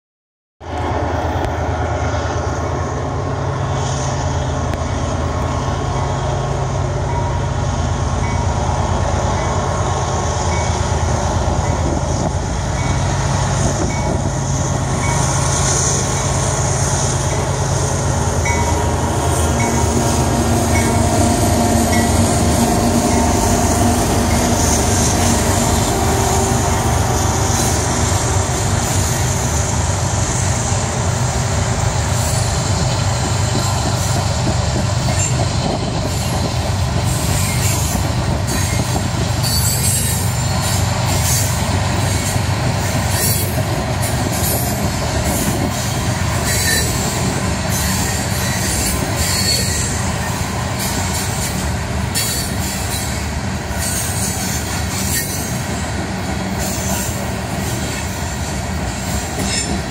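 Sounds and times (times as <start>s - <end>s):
diesel locomotive engines rumbling: 0.6s - 59.9s
train wheels on rails: 0.6s - 59.9s.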